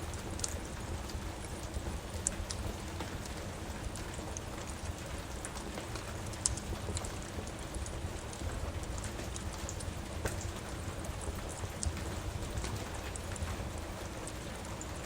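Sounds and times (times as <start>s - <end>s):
steady rain: 0.0s - 15.0s
wood fire crackling and popping: 0.1s - 15.0s.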